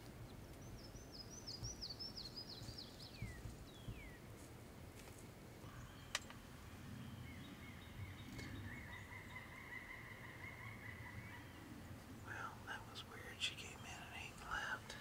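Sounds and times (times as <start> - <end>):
distant bird calls: 0.2 - 4.3, 5.6 - 15.0.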